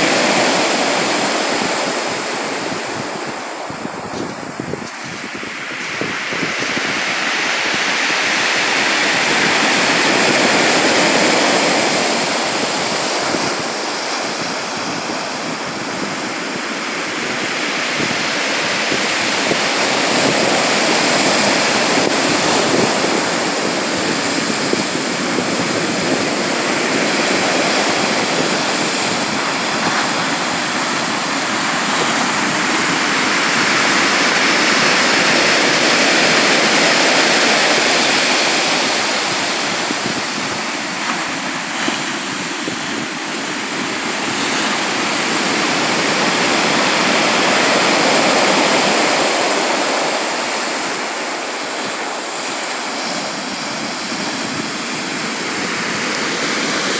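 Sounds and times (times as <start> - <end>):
waves washing in: 0.0 - 56.9.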